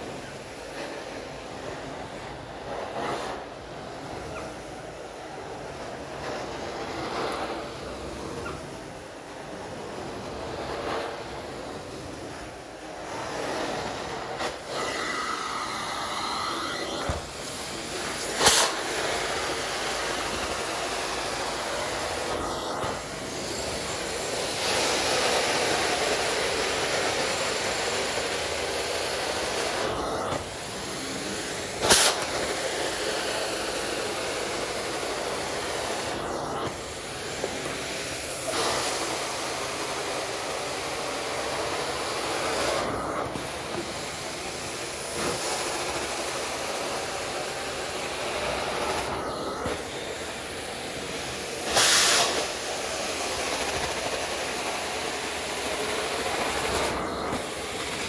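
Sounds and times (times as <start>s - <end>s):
carpet cleaner suction hiss: 0.0s - 58.0s.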